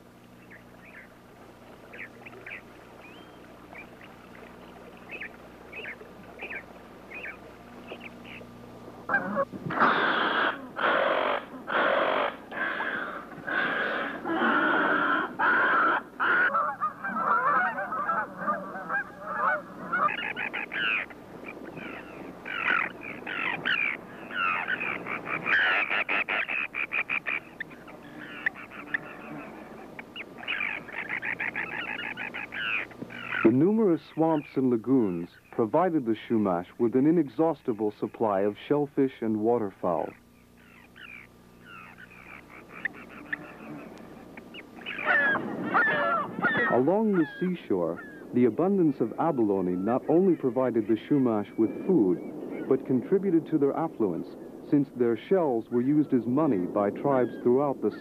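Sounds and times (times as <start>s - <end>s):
water birds calling: 0.0s - 58.0s.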